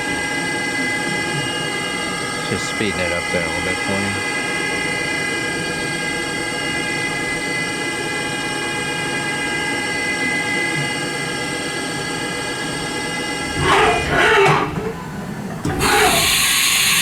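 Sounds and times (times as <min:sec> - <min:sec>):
machining center spindle whine: 0:00.0 - 0:17.0.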